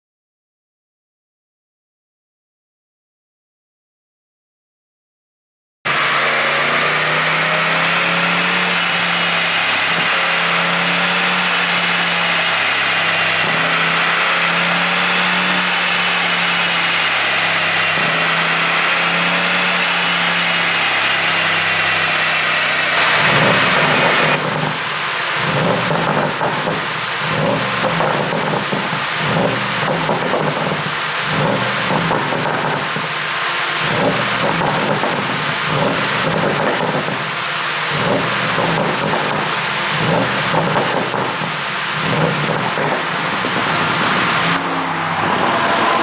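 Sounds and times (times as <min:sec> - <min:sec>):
car engine idling: 0:05.9 - 0:46.0
exhaust crackles: 0:05.9 - 0:46.0.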